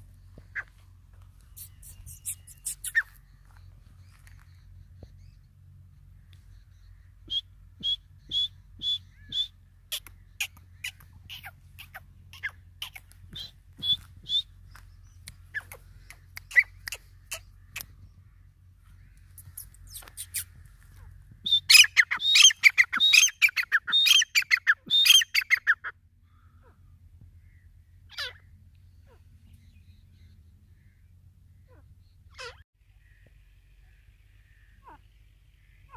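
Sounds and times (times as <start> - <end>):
bird calling: 0.0 - 35.9.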